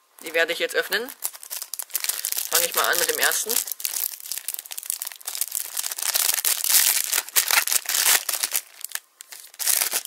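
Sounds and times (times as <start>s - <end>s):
foil pack tearing and crinkling: 1.1s - 10.0s.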